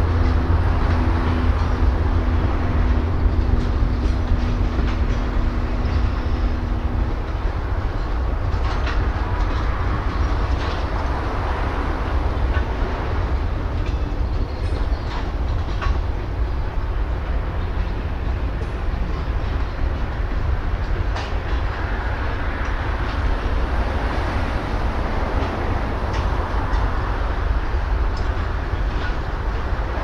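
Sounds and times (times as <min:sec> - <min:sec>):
diesel train rumble: 0:00.0 - 0:30.0
wheels clanking on rails: 0:00.0 - 0:30.0.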